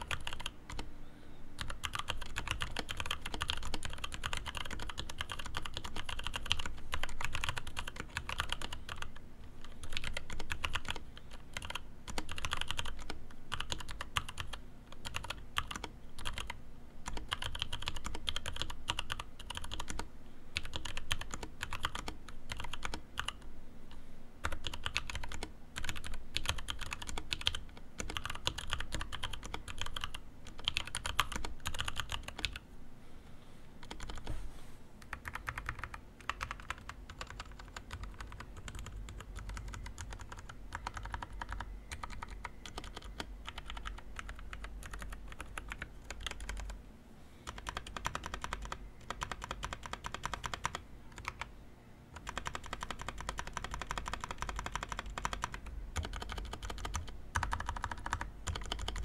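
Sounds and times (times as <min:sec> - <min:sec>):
mechanical keyboard typing: 0:00.0 - 0:00.8, 0:01.6 - 0:23.4, 0:24.4 - 0:32.6, 0:33.8 - 0:34.3, 0:35.0 - 0:46.8, 0:47.5 - 0:51.5, 0:52.2 - 0:59.0.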